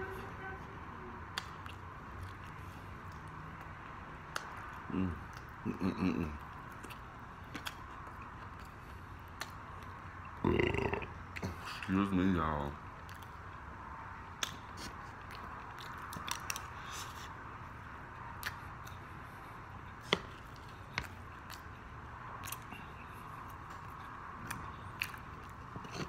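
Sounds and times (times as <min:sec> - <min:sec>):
person chewing fried chicken: 0:01.3 - 0:11.9, 0:14.3 - 0:26.0.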